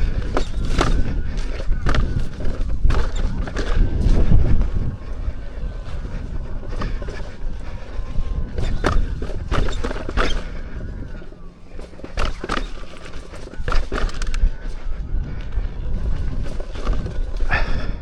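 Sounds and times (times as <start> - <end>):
faint wavering whine: 0.0 - 18.0
low rumble: 0.0 - 18.0
wind on microphone: 0.0 - 18.0.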